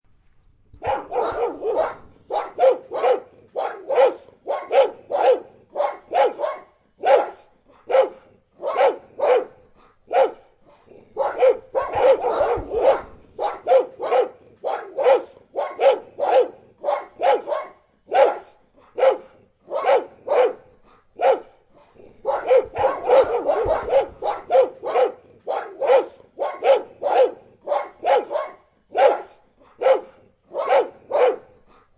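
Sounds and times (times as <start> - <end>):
dogs barking: 0.8 - 31.9.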